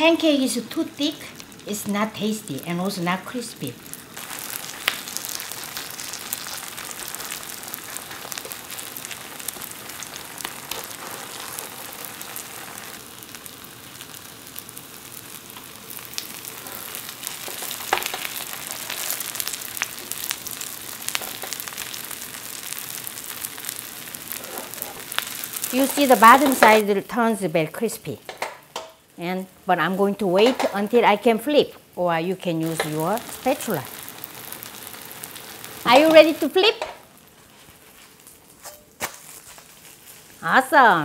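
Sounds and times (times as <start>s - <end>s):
batter sizzling in oil: 0.0s - 41.0s.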